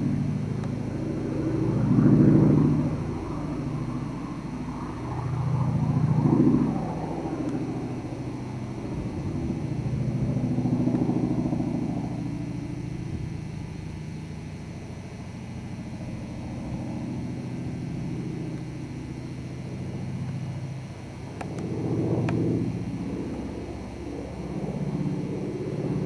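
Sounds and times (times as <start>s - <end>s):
twin propeller plane droning overhead: 0.0s - 26.0s.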